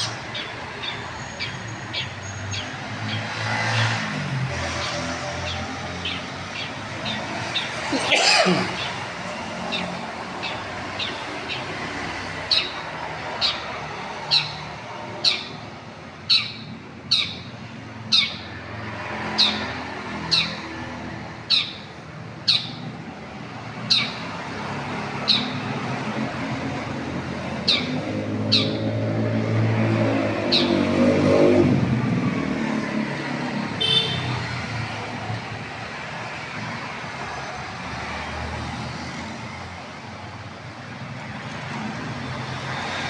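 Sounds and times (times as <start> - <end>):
low traffic rumble: 0.0 - 43.0.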